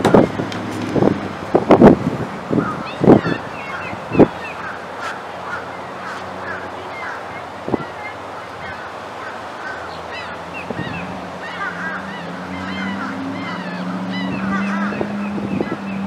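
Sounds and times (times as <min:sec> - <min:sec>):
birds chirping: 0:02.5 - 0:16.0.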